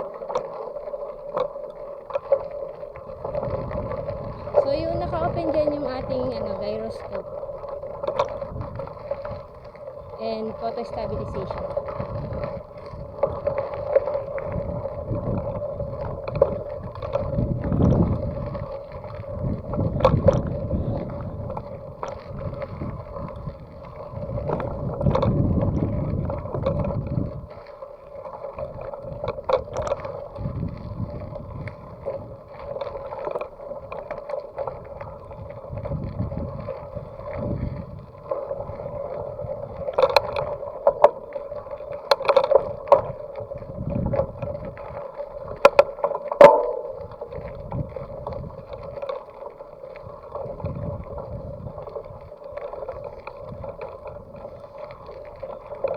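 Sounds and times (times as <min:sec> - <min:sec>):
wind rumble: 0:00.0 - 0:55.9.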